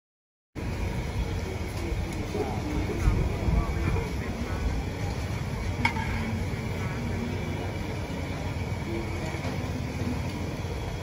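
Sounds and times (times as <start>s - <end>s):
faint voices: 0.6s - 11.0s.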